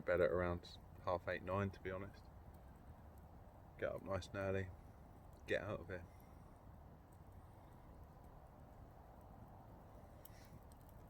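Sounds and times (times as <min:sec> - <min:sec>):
campfire crackling: 0:00.0 - 0:11.0
faint low background noise: 0:00.0 - 0:11.0.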